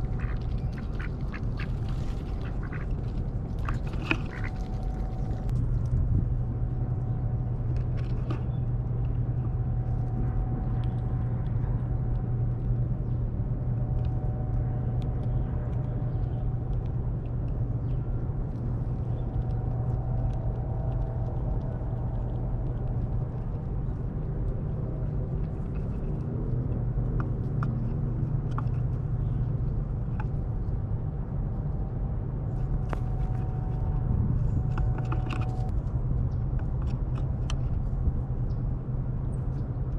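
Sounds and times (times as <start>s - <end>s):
low motor rumble: 0.0s - 39.9s.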